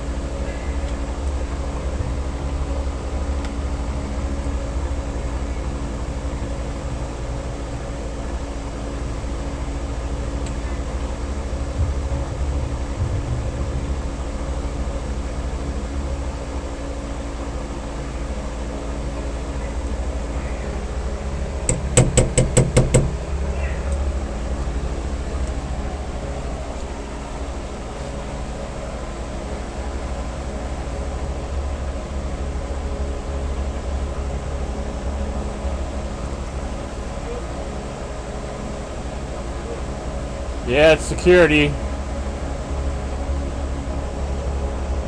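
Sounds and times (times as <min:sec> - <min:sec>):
mechanical hum and rumble: 0:00.0 - 0:45.0.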